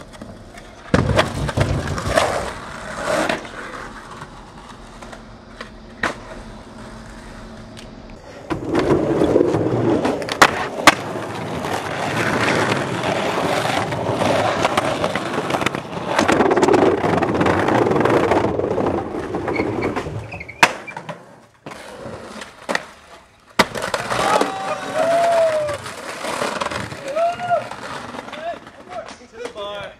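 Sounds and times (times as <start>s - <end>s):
skateboard clacks: 0.0s - 29.9s
skateboard wheels rolling on pavement: 0.0s - 29.9s.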